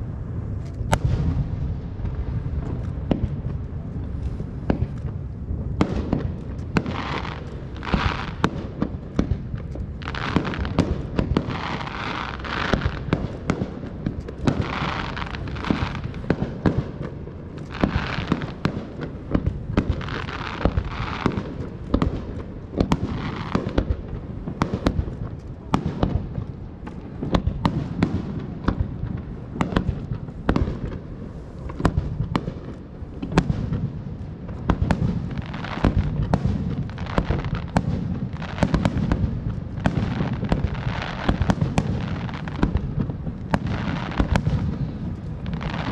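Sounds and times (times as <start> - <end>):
firework bangs: 0.0 - 45.9
firework crackling: 0.0 - 45.9.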